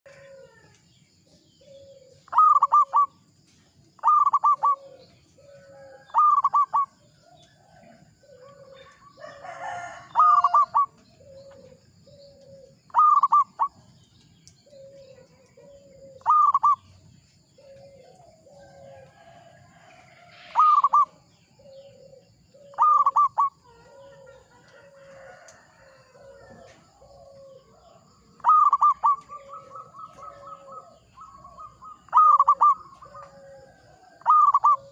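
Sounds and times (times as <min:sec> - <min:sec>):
dove cooing: 0:01.6 - 0:03.2, 0:04.0 - 0:13.8, 0:14.6 - 0:17.0, 0:17.6 - 0:34.9.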